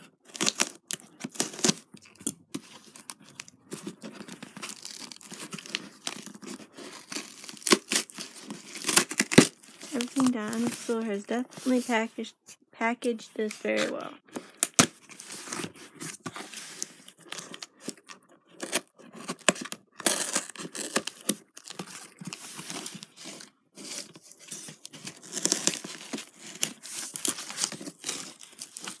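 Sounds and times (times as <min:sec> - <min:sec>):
bubble-wrap crinkling: 0:00.0 - 0:12.0, 0:13.4 - 0:29.0
cardboard ripping and rustling: 0:00.2 - 0:11.8, 0:13.7 - 0:29.0.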